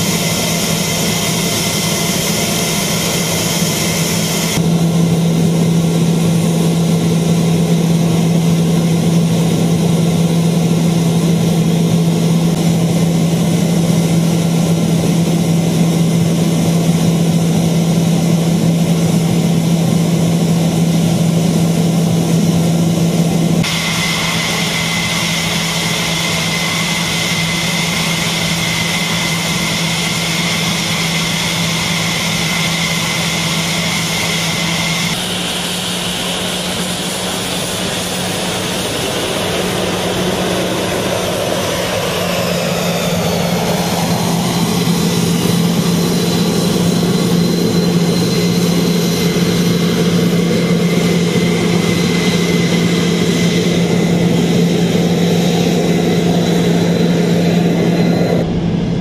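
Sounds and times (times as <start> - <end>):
engine high whine: 0.0 - 59.0
jet engine humming: 0.0 - 59.0.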